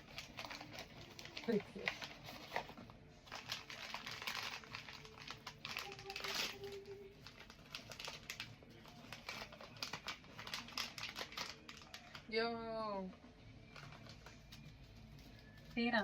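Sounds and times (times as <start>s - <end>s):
packaging crinkling and rustling: 0.0s - 12.3s, 13.6s - 15.8s.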